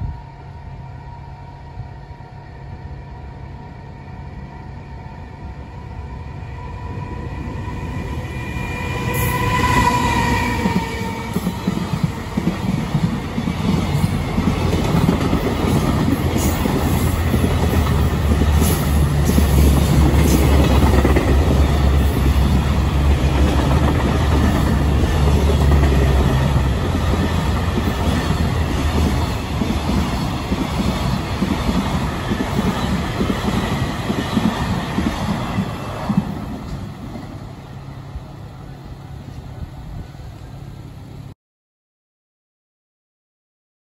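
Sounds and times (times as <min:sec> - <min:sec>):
freight train passing: 0:00.0 - 0:41.4.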